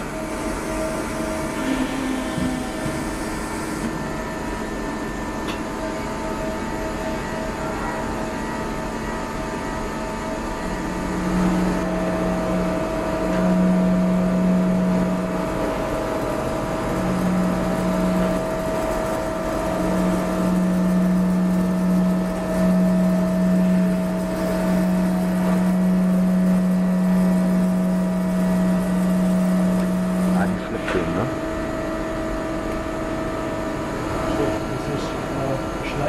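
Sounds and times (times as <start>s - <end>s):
lathe humming: 0.0s - 5.2s, 5.9s - 36.0s.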